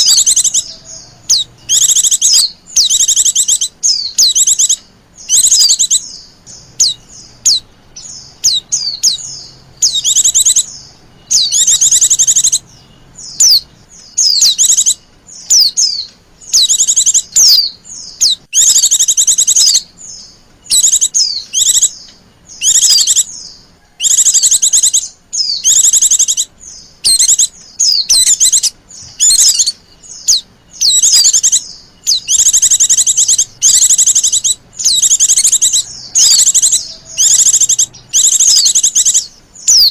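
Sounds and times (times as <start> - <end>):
birds trilled chirps: 0.0 - 39.9.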